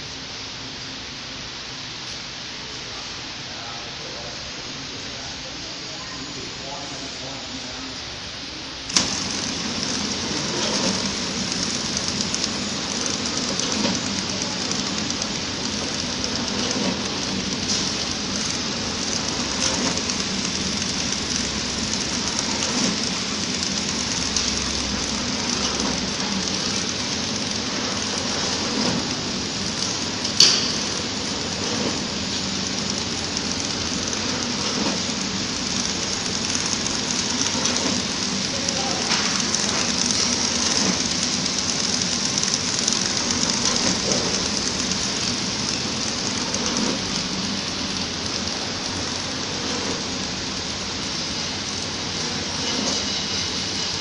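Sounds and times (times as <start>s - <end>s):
packing machine running: 2.0s - 54.0s.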